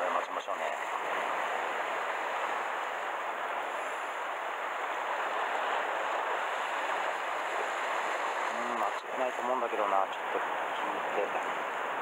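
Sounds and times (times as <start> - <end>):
sea washing against rocky shore: 0.0 - 12.0.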